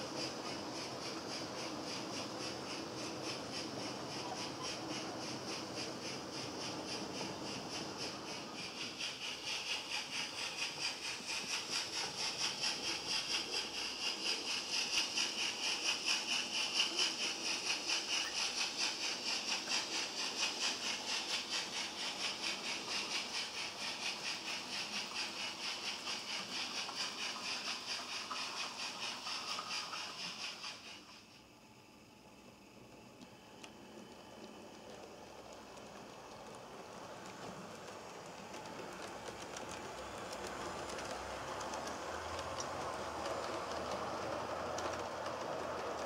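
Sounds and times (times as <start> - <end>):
hissy pulses: 0.0 - 46.0
model train running: 0.0 - 46.0.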